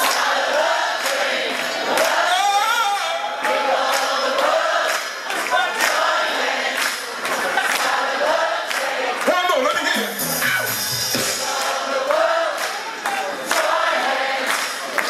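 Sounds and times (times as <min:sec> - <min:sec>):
voices singing together: 0:00.0 - 0:09.3, 0:11.2 - 0:15.0
audience noise: 0:00.0 - 0:15.0.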